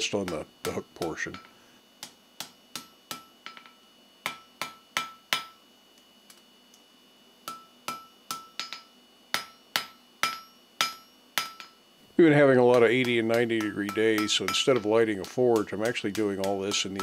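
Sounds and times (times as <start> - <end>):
hammer striking steel on anvil: 0.0 - 5.6, 7.4 - 11.8, 12.6 - 17.0.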